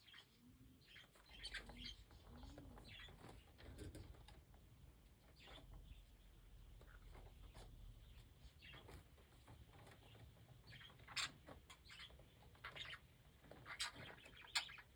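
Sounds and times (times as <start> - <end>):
budgies chirping faintly: 0.0 - 14.9.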